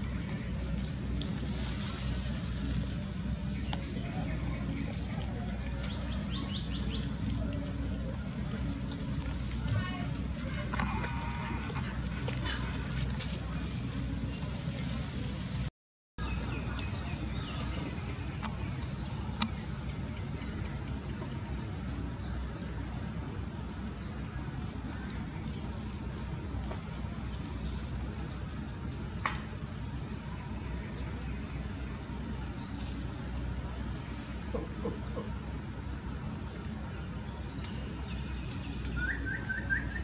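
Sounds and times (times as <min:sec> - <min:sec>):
small birds chirping: 0:00.0 - 0:40.0
steady low rumble: 0:00.0 - 0:40.0.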